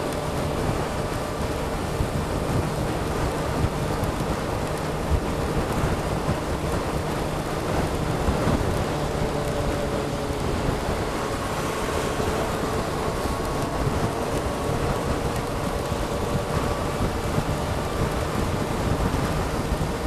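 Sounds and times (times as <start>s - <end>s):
motorcycle engine droning: 0.0s - 20.0s
wind and rain rushing: 0.0s - 20.0s.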